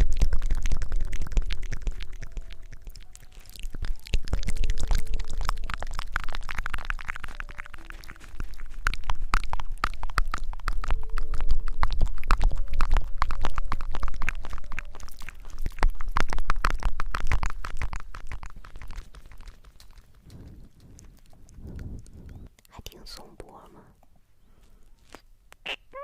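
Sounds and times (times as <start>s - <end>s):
low rumble: 0.0s - 22.5s
crackling and rubbing on microphone: 0.0s - 25.7s.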